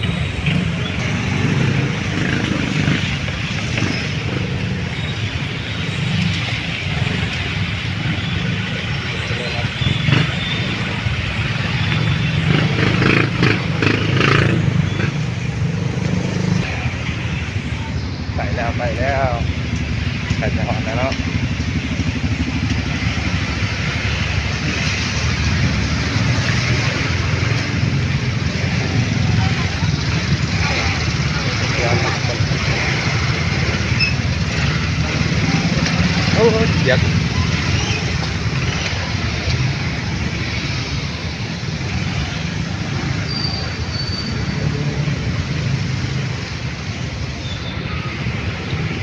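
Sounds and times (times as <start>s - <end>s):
vehicle engine hum: 0.0s - 49.0s.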